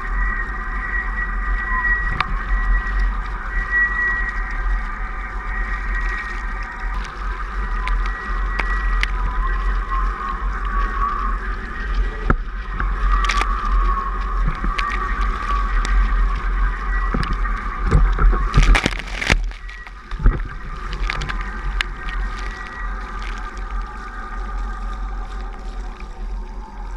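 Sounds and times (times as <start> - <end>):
steady high whine: 0.0 - 26.9
wind rumble on camera: 0.0 - 26.9
water splashing: 2.1 - 26.9.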